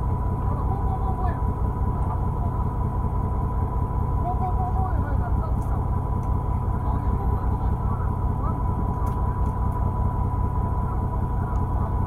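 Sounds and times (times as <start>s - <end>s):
boat engine idling: 0.0s - 12.0s
thin steady whine: 0.0s - 12.0s.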